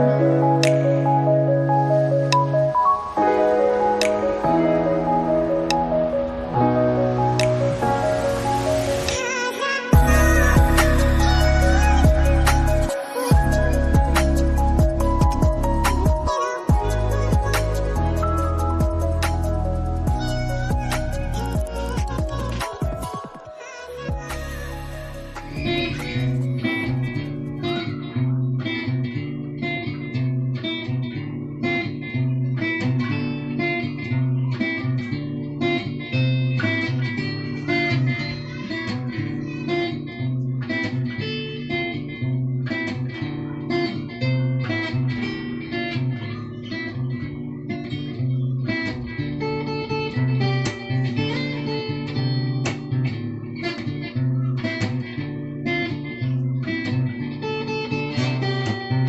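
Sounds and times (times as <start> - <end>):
fingerpicked acoustic guitar: 0.0 - 59.0.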